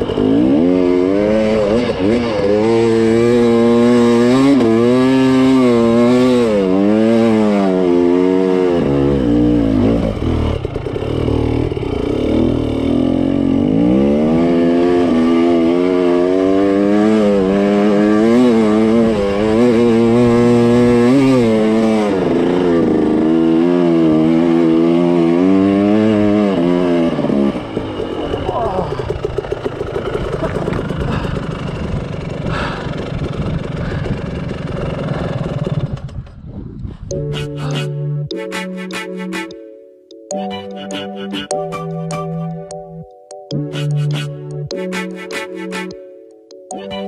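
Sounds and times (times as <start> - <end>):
dirt bike engine revving: 0.0 - 36.3, 37.1 - 39.6.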